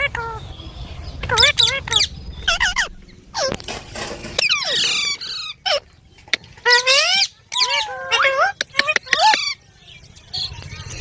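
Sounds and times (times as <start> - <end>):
parrots squawking and chattering: 0.0 - 11.0.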